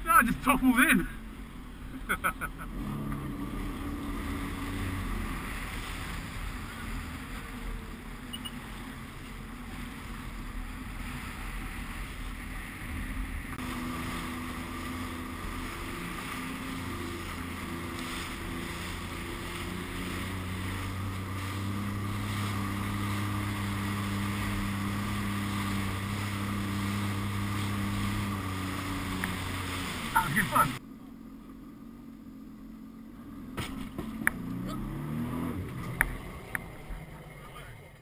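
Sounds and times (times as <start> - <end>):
jet ski engine: 0.0 - 38.0
water splashing: 2.7 - 30.8, 33.5 - 37.9.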